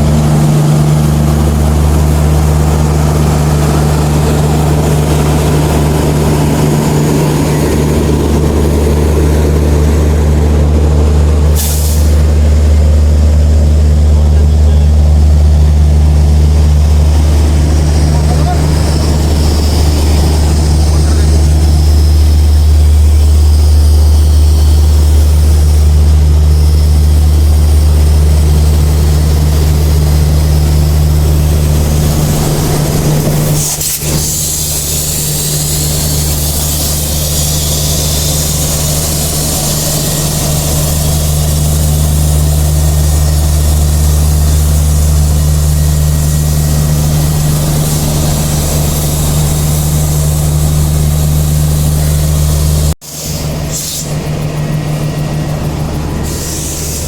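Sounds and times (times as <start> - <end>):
diesel locomotive engine idling: 0.0 - 57.0.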